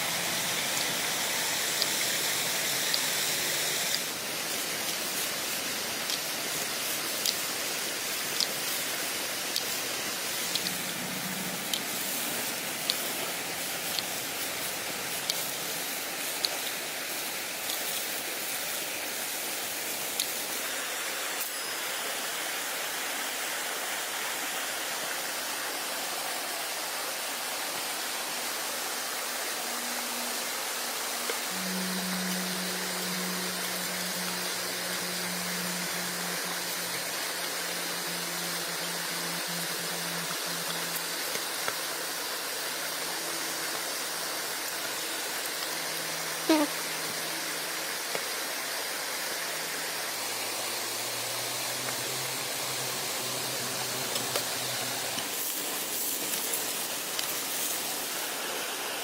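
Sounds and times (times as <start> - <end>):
water flowing: 0.0 - 59.0.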